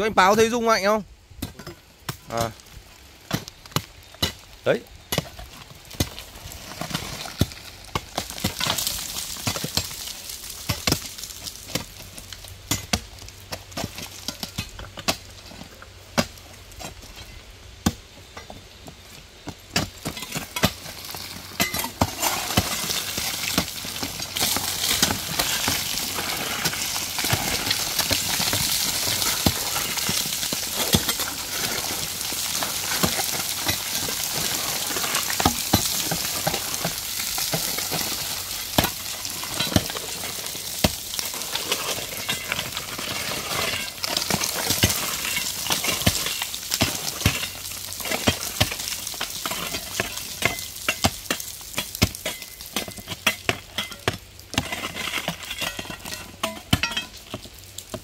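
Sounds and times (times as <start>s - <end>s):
rock cracking and clattering: 1.4s - 58.0s
small stones and grit rushing: 1.4s - 58.0s.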